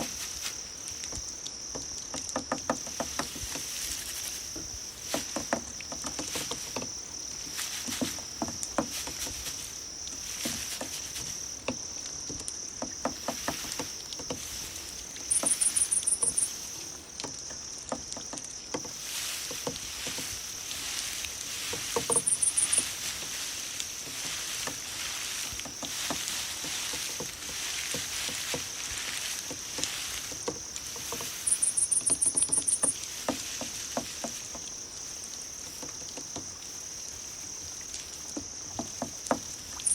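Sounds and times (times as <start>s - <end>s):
crickets trilling: 0.0s - 39.9s
insect rapid chirps: 0.0s - 39.9s.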